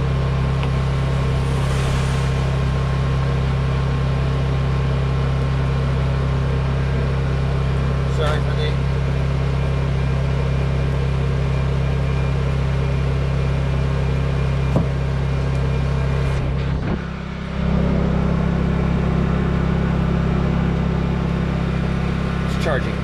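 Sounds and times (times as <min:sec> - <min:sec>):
generator engine running: 0:00.0 - 0:23.0.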